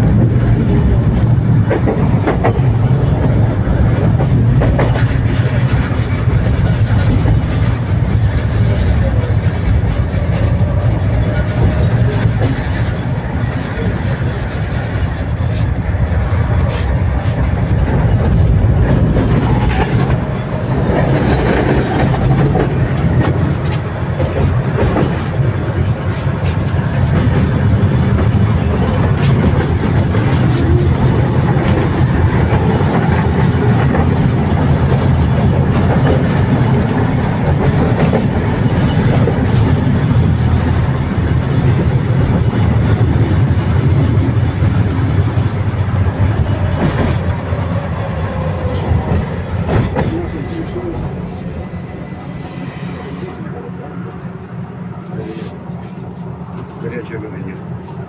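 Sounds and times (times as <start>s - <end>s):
wheels clacking over rail joints: 0.0s - 15.8s, 16.6s - 51.2s
tram wheels rumbling: 0.0s - 58.0s.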